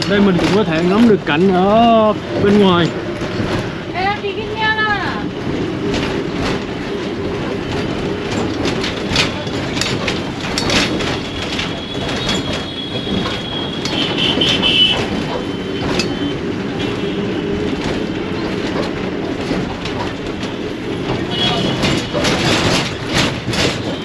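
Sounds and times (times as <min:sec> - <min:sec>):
bus body rattling: 0:00.0 - 0:24.0
bus engine and road rumble: 0:00.0 - 0:24.0.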